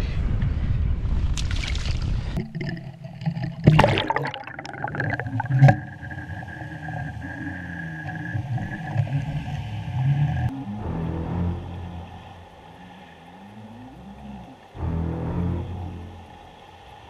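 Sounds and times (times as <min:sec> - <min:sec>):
muffled underwater hum: 0:02.4 - 0:17.0
water gurgling: 0:02.4 - 0:17.0.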